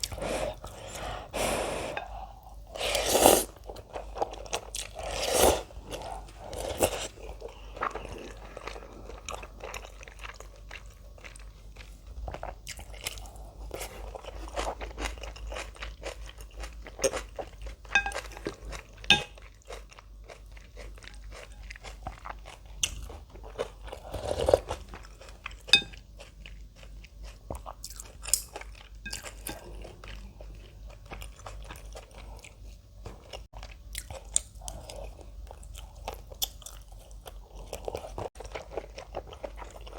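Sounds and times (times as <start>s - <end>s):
crunching and chewing food: 2.0s - 39.9s.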